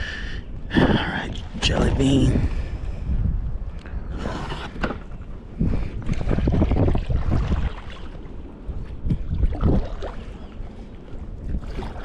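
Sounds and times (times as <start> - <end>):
water around a canoe: 0.0 - 12.0
wind buffeting microphone: 0.0 - 12.0.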